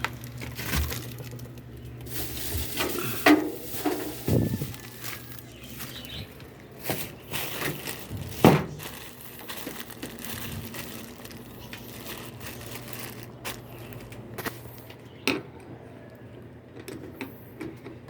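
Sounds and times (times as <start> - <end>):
rustling handling noise: 0.0 - 15.1.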